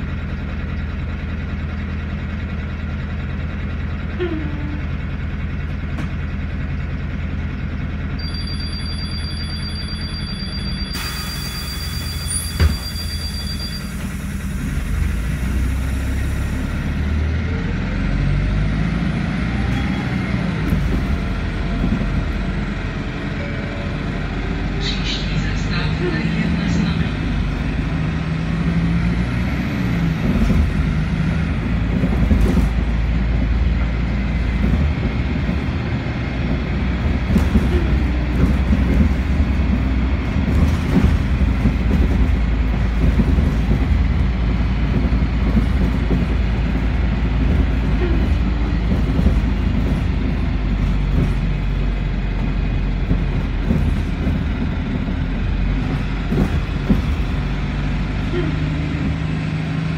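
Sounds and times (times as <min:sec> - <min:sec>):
vehicle interior rumble: 0:00.0 - 0:11.3, 0:12.0 - 0:59.9.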